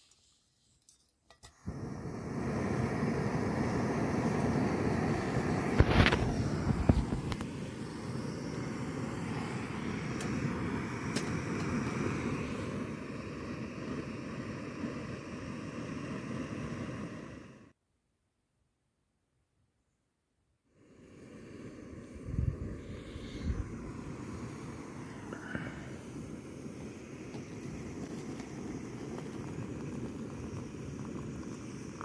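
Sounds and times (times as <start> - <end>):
camp stove burner hissing: 0.0 - 17.8, 20.7 - 32.0.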